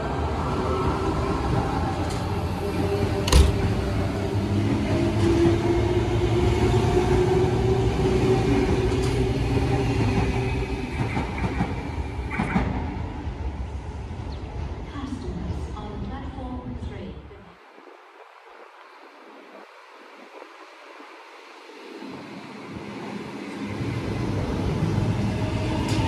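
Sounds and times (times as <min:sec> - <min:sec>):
electric train running past: 0:00.0 - 0:16.0, 0:17.6 - 0:26.0.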